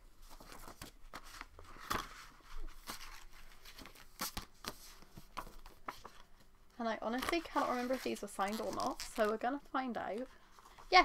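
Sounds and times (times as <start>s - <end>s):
paper rustling and crinkling: 0.2s - 6.5s, 7.1s - 11.0s.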